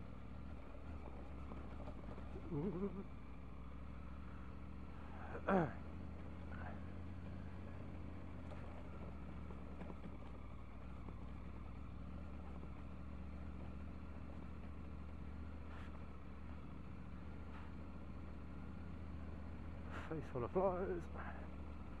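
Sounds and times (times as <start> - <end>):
motorcycle engine running steadily: 0.0 - 22.0.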